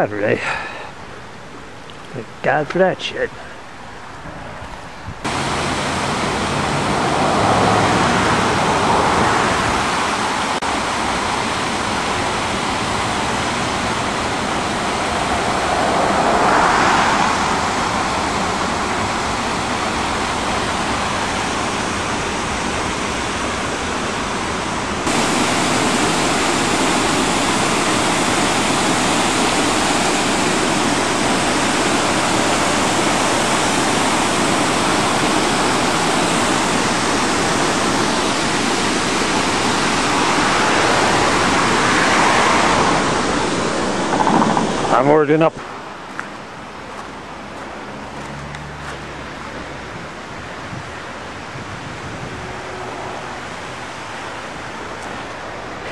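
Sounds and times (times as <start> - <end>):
water rushing over a dam: 5.2 - 48.2, 49.0 - 55.9.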